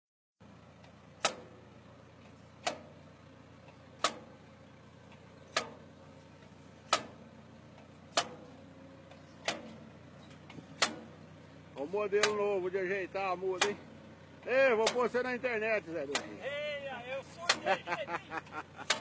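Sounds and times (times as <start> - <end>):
transplanter machine humming: 0.4 - 19.0.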